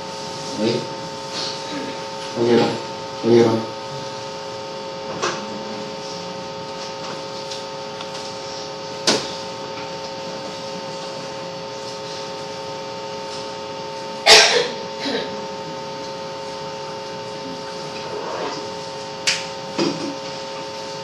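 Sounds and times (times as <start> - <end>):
electrical hum and hiss: 0.0 - 21.0.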